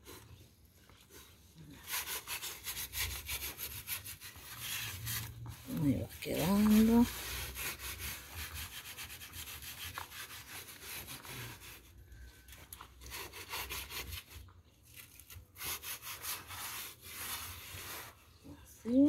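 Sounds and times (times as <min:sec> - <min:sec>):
hands kneading dough in plastic bowl: 0:00.0 - 0:19.0.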